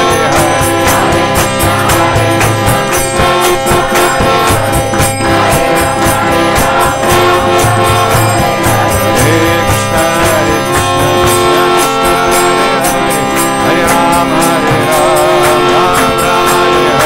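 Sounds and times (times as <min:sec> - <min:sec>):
drum beat: 0:00.0 - 0:17.0
jingling hand cymbals: 0:00.0 - 0:17.0
sustained held notes: 0:00.0 - 0:17.0.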